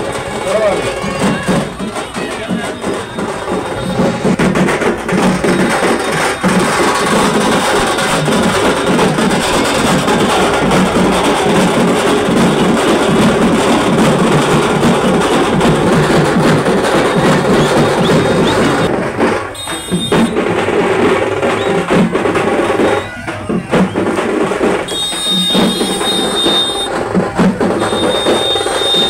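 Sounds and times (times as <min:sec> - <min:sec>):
percussion-led music: 0:00.0 - 0:29.0.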